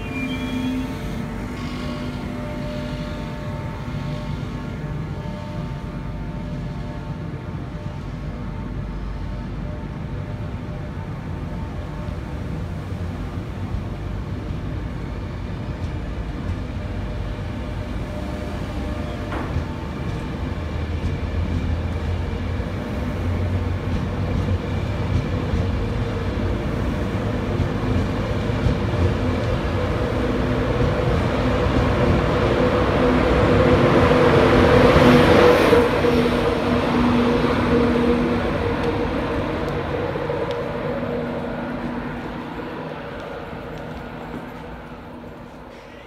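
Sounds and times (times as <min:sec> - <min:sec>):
electric train hum and rolling: 0:00.0 - 0:46.0.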